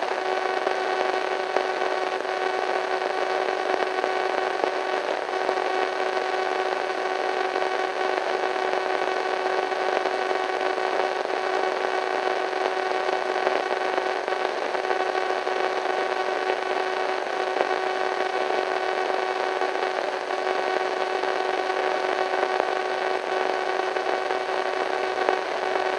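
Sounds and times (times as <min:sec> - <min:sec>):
radio static hiss: 0:00.0 - 0:25.9.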